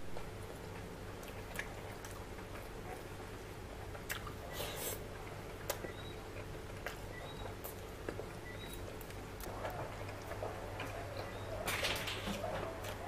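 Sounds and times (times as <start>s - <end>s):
low steady hum: 0.0s - 13.0s
chewing: 1.2s - 3.1s, 3.9s - 13.0s.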